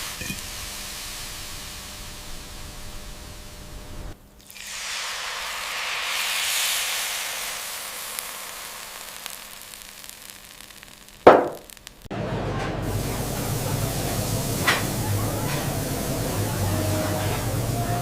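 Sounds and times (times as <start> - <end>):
hiss: 0.0 - 11.8, 12.9 - 18.0.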